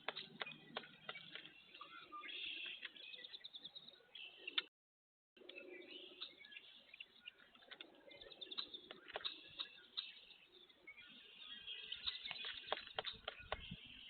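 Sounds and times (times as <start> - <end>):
faint bird chirps: 0.1 - 4.7, 5.4 - 14.0.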